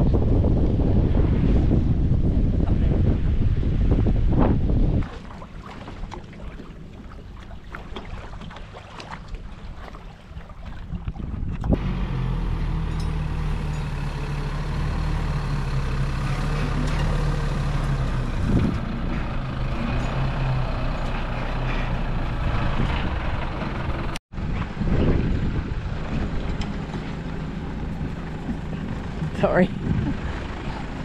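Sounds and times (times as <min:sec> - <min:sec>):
truck engine driving off-road: 0:00.0 - 0:05.6, 0:11.3 - 0:31.0.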